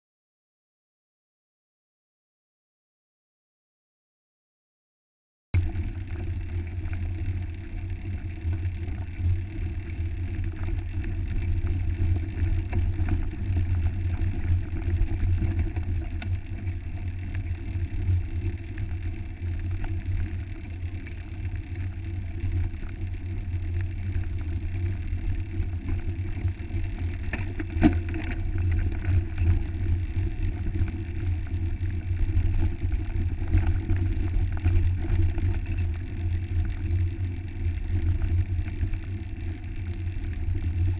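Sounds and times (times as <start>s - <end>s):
bike trail vibration rumble: 5.6s - 40.9s.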